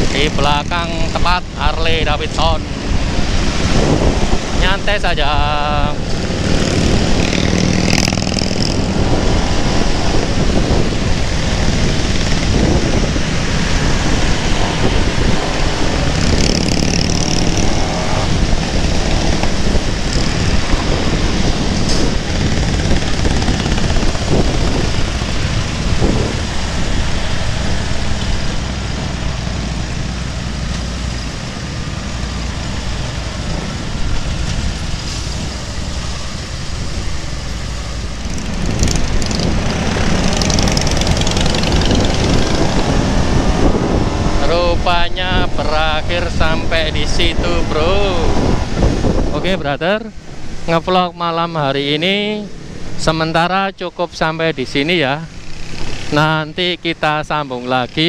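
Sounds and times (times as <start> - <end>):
motorcycle engines running: 0.0 - 58.0.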